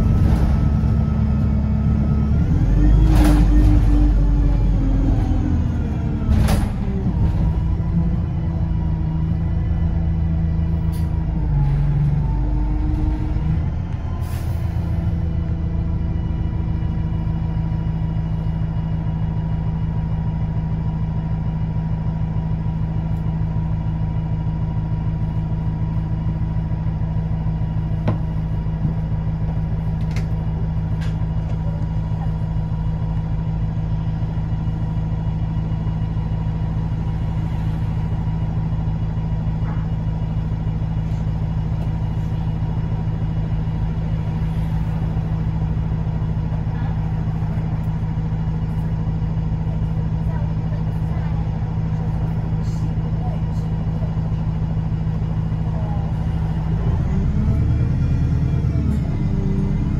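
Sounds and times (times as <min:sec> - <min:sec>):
bus engine humming: 0:00.0 - 0:59.9.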